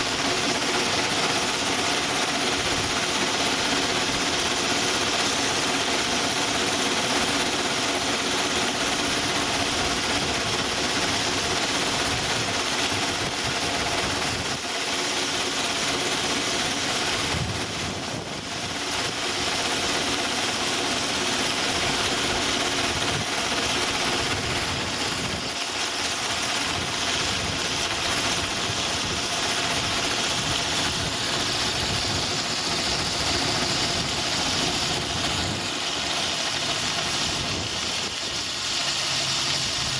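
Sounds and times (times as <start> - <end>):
locomotive engine running: 0.0 - 39.9.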